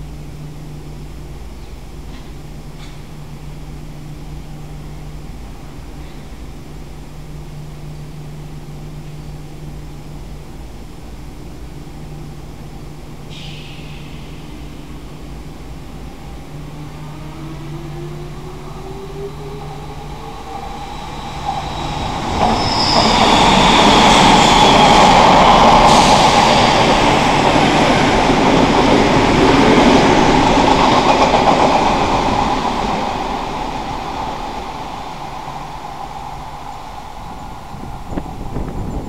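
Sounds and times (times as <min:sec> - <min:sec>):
electric train passing: 0:00.1 - 0:39.0.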